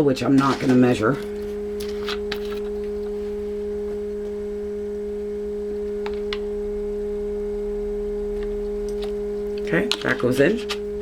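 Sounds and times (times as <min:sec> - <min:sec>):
stand mixer humming: 0:00.0 - 0:11.0.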